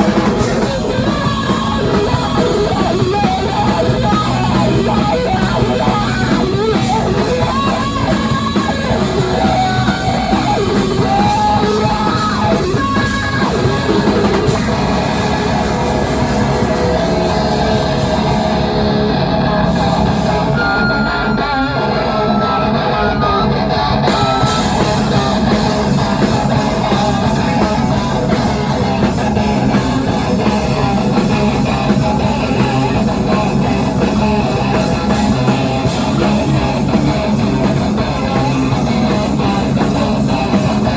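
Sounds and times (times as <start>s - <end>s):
bass: 0.0s - 40.9s
drums: 0.0s - 40.9s
electric guitars: 0.0s - 40.9s.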